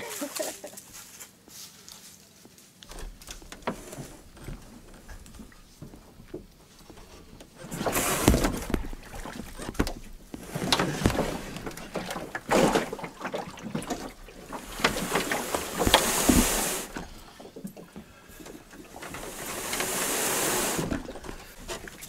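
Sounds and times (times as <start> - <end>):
paddle strokes splashing in water: 3.4 - 22.0.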